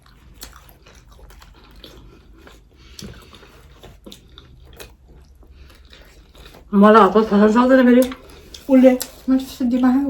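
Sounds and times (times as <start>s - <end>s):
person chewing food: 0.0s - 9.9s.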